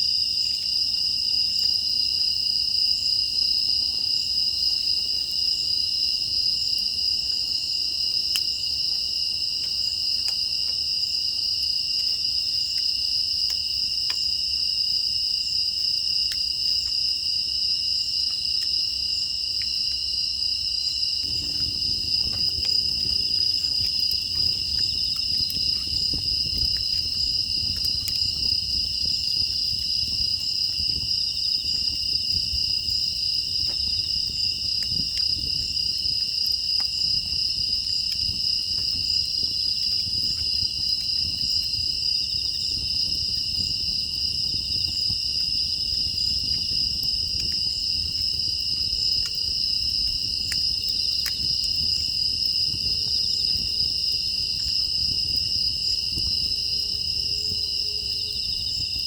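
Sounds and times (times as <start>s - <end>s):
crickets and insects chirring: 0.0s - 59.0s
wood fire crackling: 0.0s - 59.0s.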